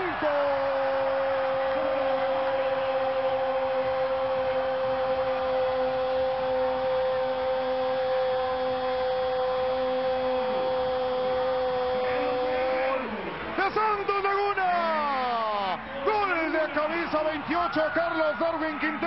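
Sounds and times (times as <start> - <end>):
commentator's drawn-out goal call: 0.0 - 19.0
stadium crowd noise: 0.0 - 19.0.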